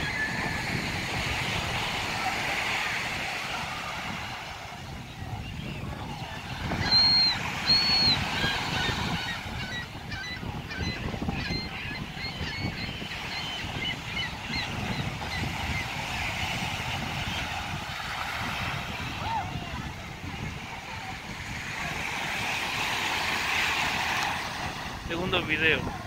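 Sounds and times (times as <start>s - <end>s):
small waves breaking: 0.0s - 12.2s, 13.0s - 26.0s
wind: 0.0s - 26.0s.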